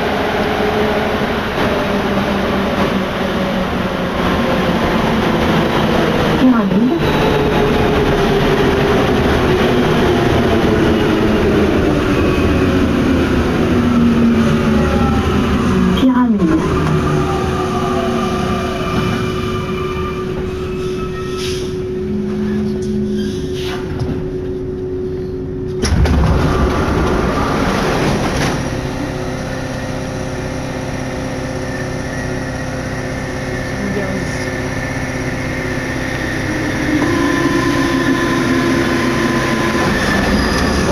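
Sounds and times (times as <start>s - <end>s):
train running with whine: 0.0s - 40.9s.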